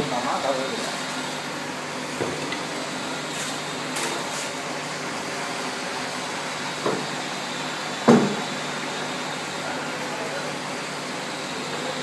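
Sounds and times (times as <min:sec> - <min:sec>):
furnace machine hum and hiss: 0:00.0 - 0:12.0.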